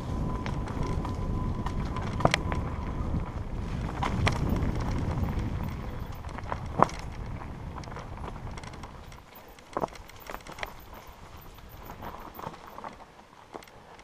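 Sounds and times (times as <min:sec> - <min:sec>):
wind on microphone: 0:00.0 - 0:12.8
bike tyres and frame rattling: 0:00.0 - 0:14.0.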